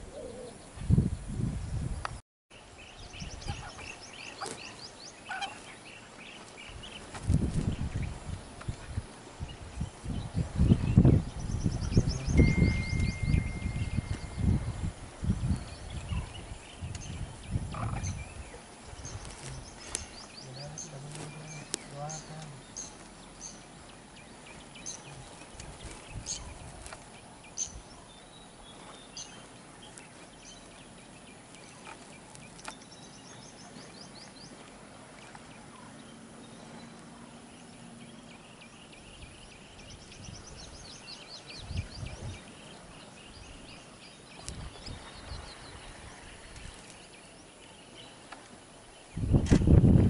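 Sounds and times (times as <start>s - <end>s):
wild birds chirping: 0.0s - 1.9s, 2.5s - 50.0s.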